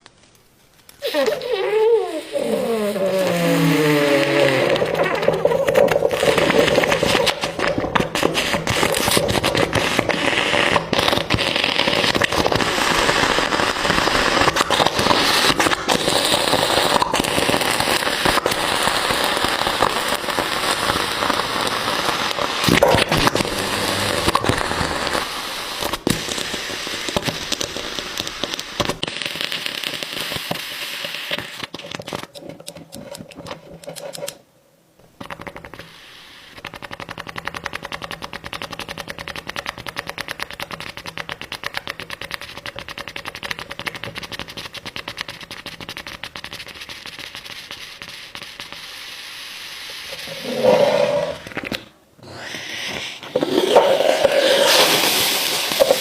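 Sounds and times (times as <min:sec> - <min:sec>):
hot ball sizzling in gel: 0:00.0 - 0:32.3, 0:35.3 - 0:56.0
sharp pops: 0:00.0 - 0:34.4, 0:35.2 - 0:56.0.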